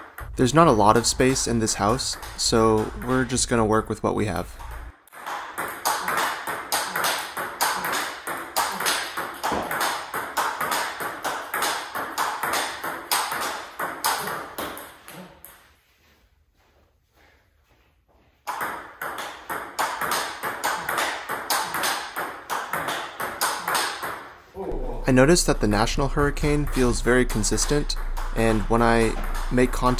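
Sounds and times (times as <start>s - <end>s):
ball bouncing on table: 0.0s - 3.6s, 4.2s - 14.8s, 18.5s - 24.3s, 25.4s - 29.9s
ping pong ball hitting rackets: 0.0s - 15.6s, 18.5s - 24.4s, 25.2s - 29.9s.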